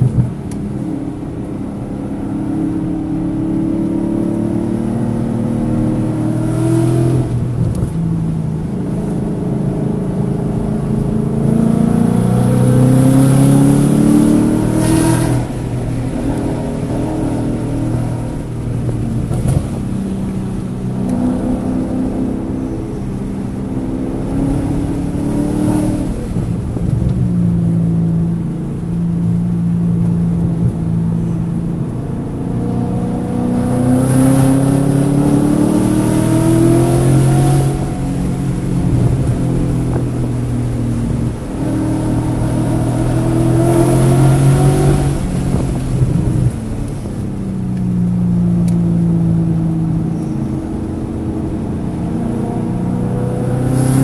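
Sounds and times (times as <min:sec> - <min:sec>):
car engine at full throttle: 0:00.0 - 0:54.0.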